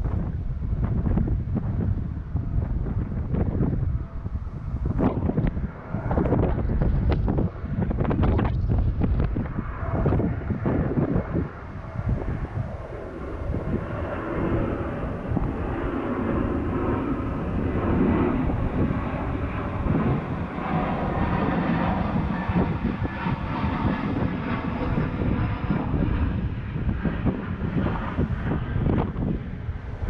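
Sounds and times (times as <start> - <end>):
wind blowing across microphone: 0.0 - 30.0.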